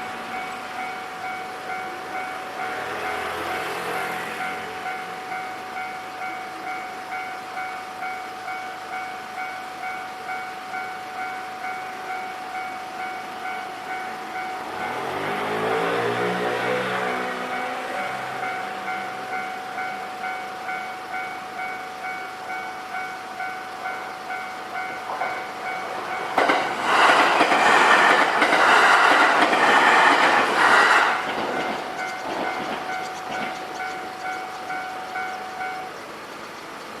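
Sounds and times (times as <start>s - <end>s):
level-crossing warning bell: 0.0s - 37.0s
train wheels clacking over rails: 0.0s - 37.0s.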